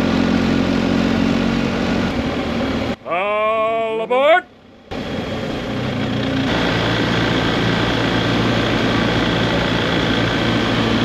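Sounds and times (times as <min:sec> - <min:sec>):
motorcycle engine running: 0:00.0 - 0:03.0, 0:04.5 - 0:11.0
wind and road noise: 0:00.0 - 0:11.0.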